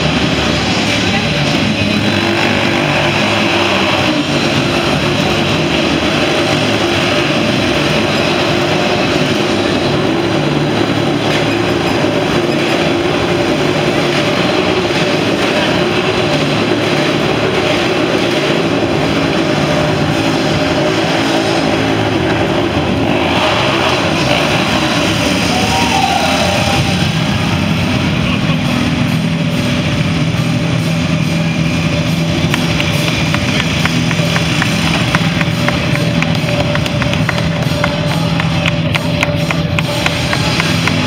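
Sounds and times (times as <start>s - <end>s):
motorcycle engines running: 0.0s - 41.0s.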